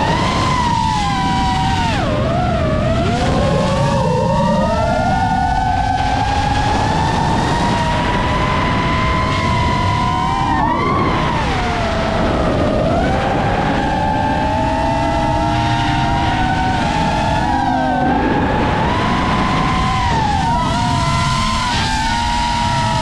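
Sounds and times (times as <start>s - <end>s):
drone motors whining: 0.0s - 23.0s
wind noise: 0.0s - 23.0s.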